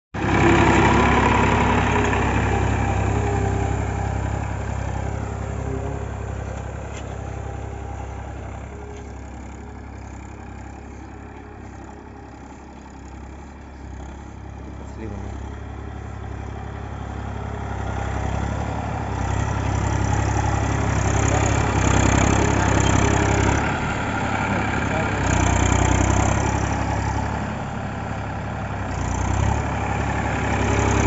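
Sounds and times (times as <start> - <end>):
tractor diesel engine driving: 0.1 - 31.0.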